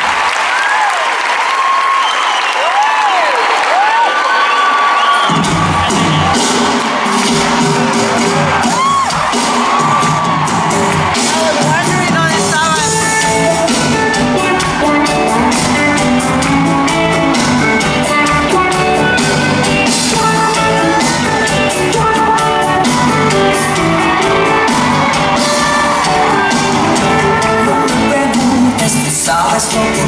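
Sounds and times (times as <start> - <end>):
live band playing dance-pop: 3.8 - 30.0
steady drum beat: 5.3 - 30.0.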